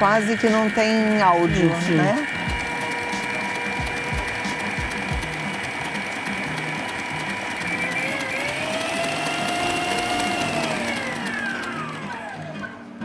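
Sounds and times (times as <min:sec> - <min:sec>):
stand mixer motor whine: 0:00.0 - 0:13.0.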